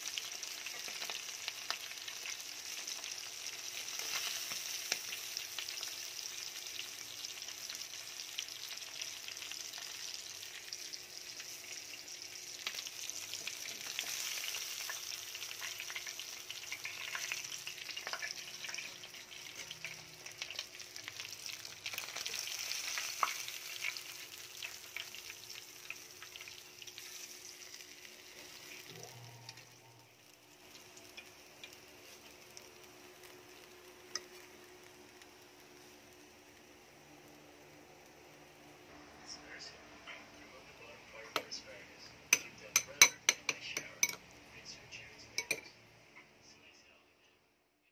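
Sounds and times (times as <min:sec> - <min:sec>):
fish sizzling in hot oil: 0:00.0 - 0:38.8.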